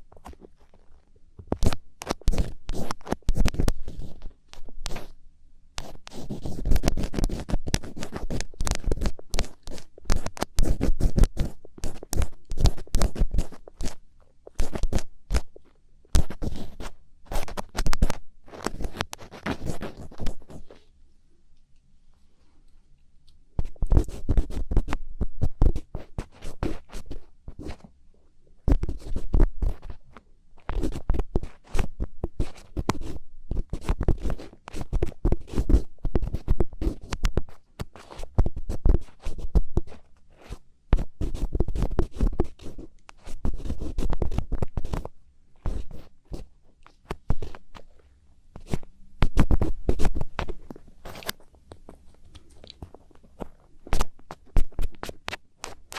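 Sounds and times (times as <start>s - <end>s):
ear pick scratching: 0.0s - 5.2s, 5.8s - 20.8s, 23.6s - 27.9s, 28.7s - 48.0s, 48.6s - 55.9s.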